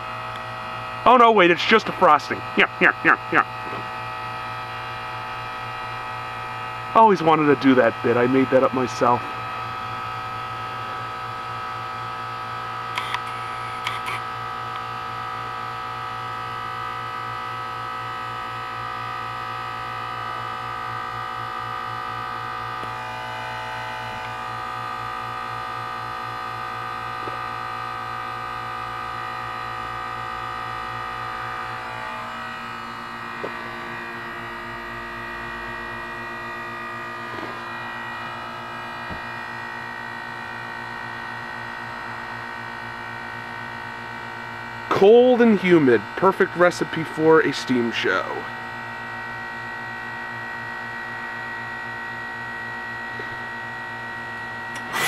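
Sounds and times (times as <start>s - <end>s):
compressor electrical buzzing hum: 0.0s - 55.0s.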